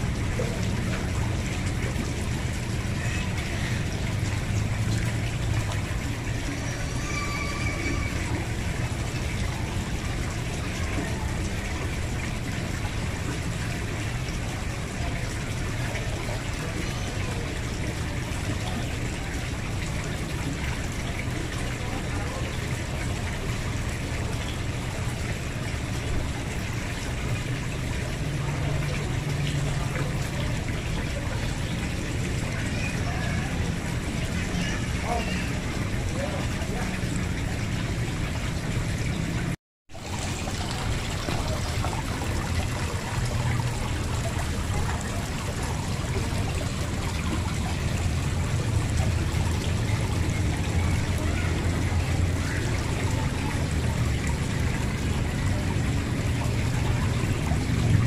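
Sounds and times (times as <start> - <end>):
fountain water trickling into pond: 0.0 - 58.0.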